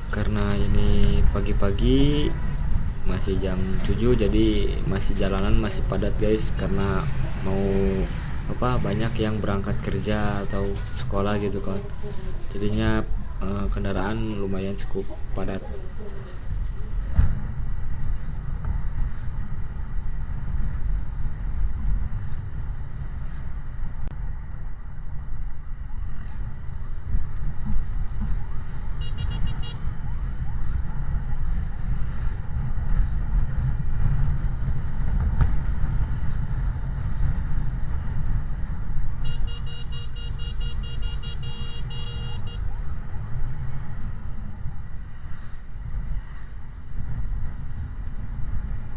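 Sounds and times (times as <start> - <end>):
road traffic rumble: 0.0 - 48.9.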